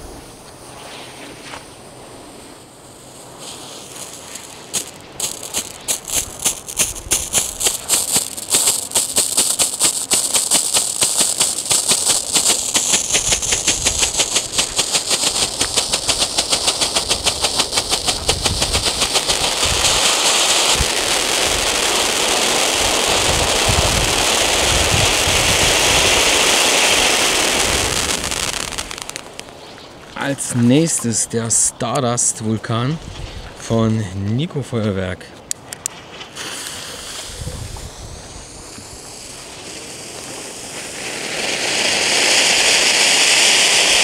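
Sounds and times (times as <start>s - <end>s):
firework fountain hissing: 0.0s - 31.7s, 35.7s - 44.0s
firework strobe pulsing: 2.3s - 30.4s, 35.8s - 44.0s.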